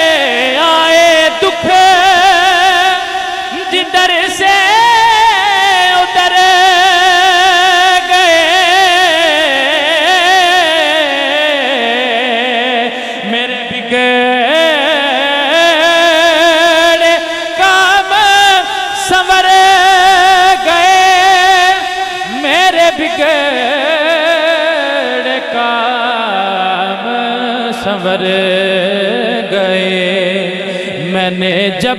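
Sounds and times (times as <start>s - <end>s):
man singing into a microphone: 0.0s - 31.9s.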